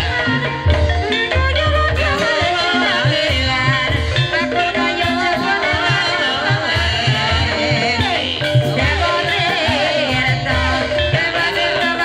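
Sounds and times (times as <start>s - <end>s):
gongs and hand drums: 0.0s - 12.0s.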